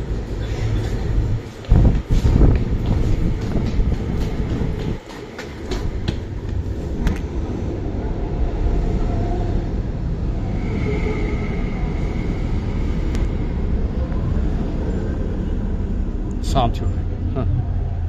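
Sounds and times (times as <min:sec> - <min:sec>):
train wheels rumbling on rail: 0:00.0 - 0:16.3.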